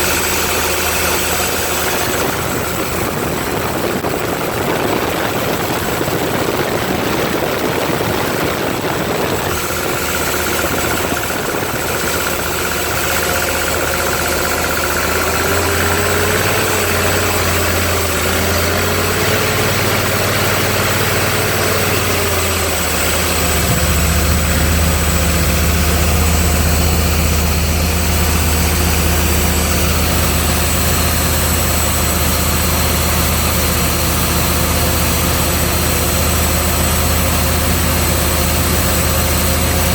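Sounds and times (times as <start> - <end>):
air compressor engine running: 0.0 - 39.9.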